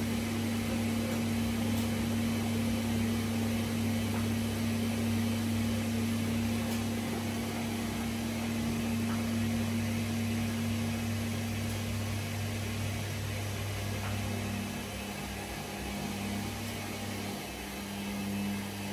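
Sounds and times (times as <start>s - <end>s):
washing machine humming: 0.0s - 18.9s.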